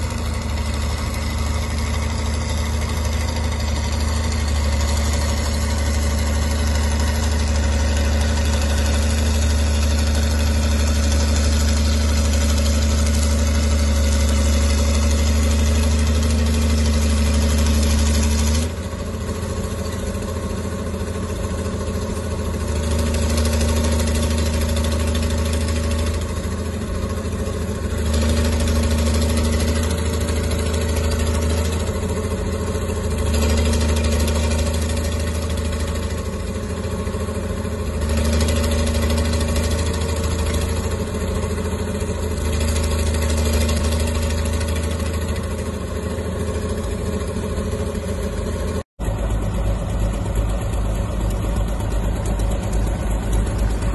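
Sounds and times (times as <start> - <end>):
dozer engines droning: 0.0 - 53.9.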